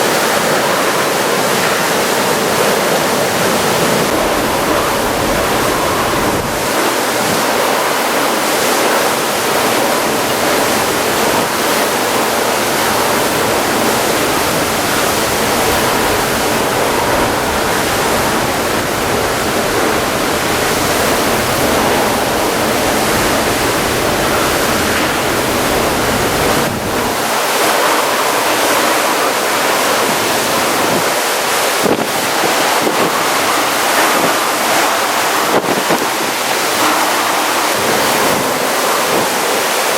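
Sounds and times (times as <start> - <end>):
strong wind blowing: 0.0 - 39.9
torrential rain pouring: 0.0 - 39.9.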